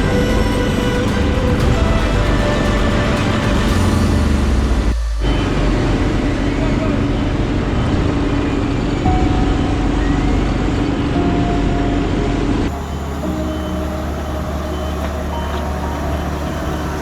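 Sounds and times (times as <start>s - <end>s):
paving machinery engines: 0.0s - 17.0s.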